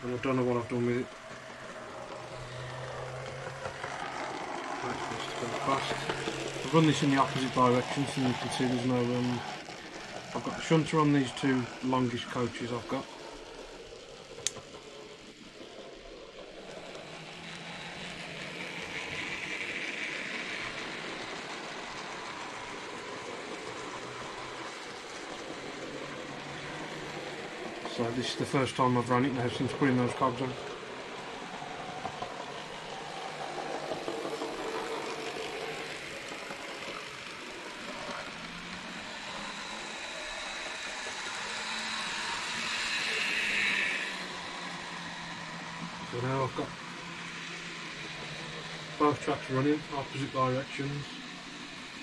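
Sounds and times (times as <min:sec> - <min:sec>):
model train motor whirring: 0:00.0 - 0:52.0
wheels clicking on track: 0:00.0 - 0:52.0.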